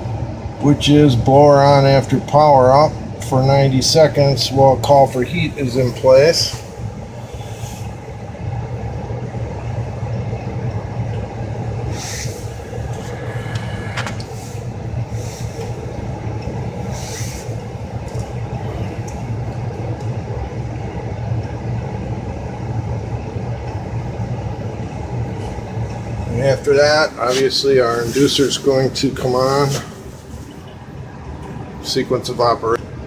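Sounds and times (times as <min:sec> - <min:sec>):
furnace blower rumbling: 0:00.0 - 0:33.0.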